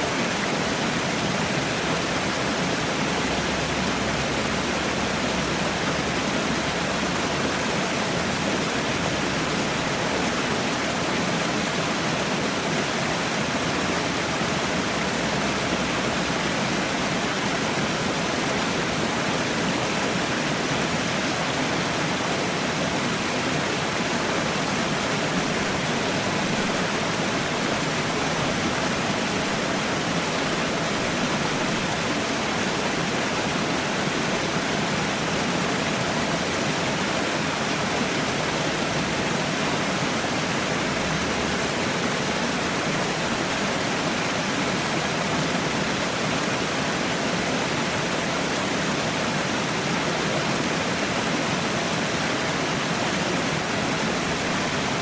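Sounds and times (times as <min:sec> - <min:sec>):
falling water rushing: 0:00.0 - 0:55.0.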